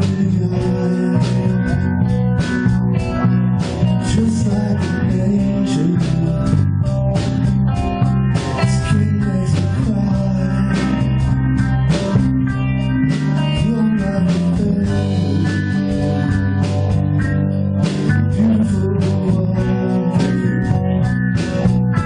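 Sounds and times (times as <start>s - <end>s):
bass guitar: 0.0s - 22.0s
drum kit beat: 0.0s - 22.0s
electric guitars: 0.0s - 22.0s.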